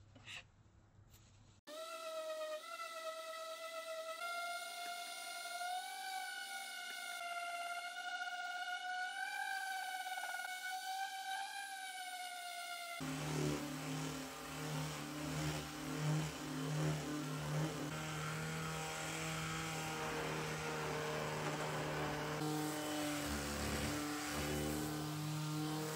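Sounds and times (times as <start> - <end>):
orbital sander whining: 1.7 - 25.9
sander buzzing on painted wood: 1.7 - 25.9.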